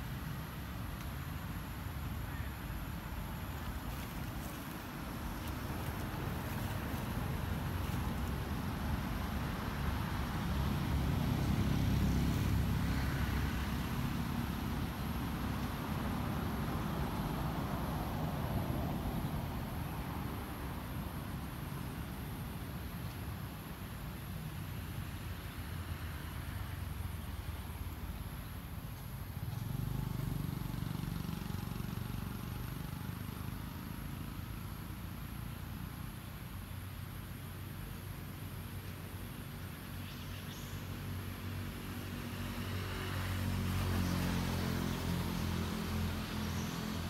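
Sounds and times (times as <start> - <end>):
faint steady hiss: 0.0 - 42.3
outdoor background rumble: 0.0 - 47.0.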